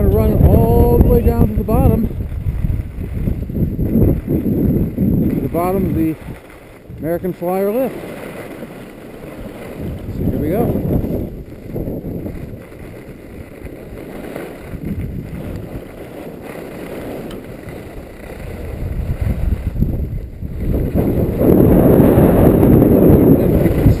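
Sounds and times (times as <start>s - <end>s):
skis sliding on snow: 0.0s - 24.0s
wind rushing over microphone: 0.0s - 24.0s.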